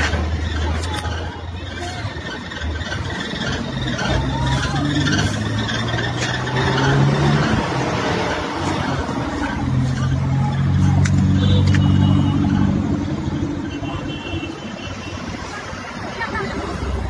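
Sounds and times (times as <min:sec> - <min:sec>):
diesel engines humming: 0:00.0 - 0:17.0.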